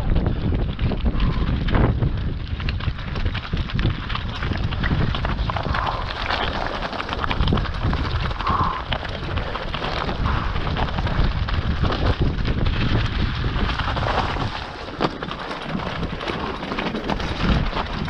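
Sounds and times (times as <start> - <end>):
bike rattling: 0.0 - 18.0
tyres crunching on stones: 0.0 - 18.0
wind buffeting microphone: 0.0 - 18.0.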